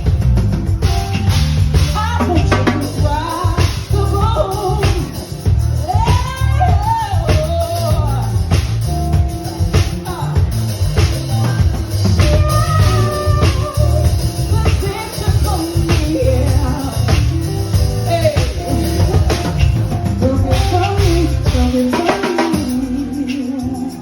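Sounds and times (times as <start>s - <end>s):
live soul band playing: 0.0s - 24.0s
person singing: 1.7s - 24.0s.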